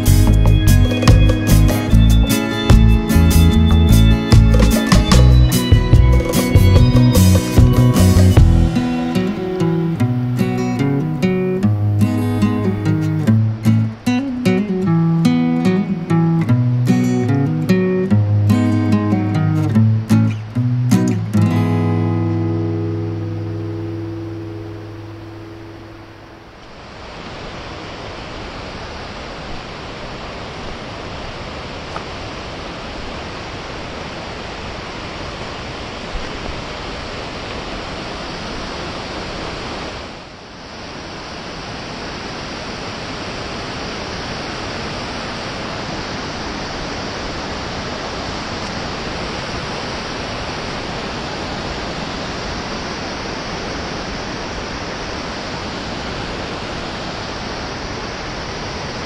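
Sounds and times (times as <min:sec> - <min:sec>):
water rushing over rocks: 0:04.2 - 0:59.0.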